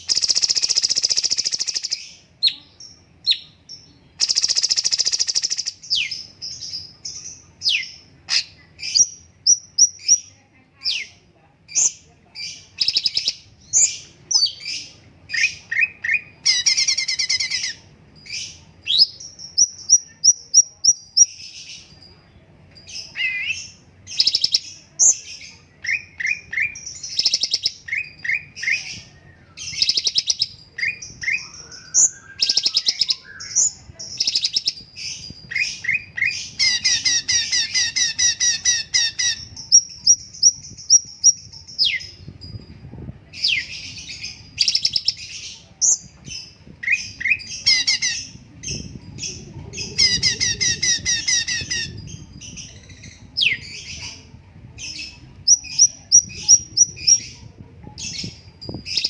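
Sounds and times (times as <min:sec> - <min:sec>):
songbird chirping and trilling: 0:00.0 - 0:59.0.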